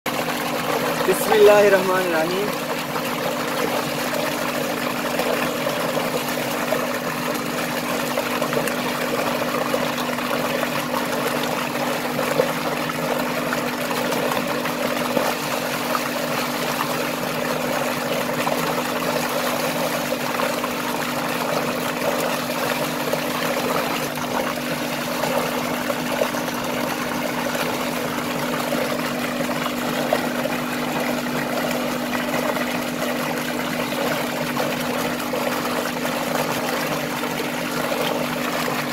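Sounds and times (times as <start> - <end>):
water gushing into tank: 0.1 - 38.9.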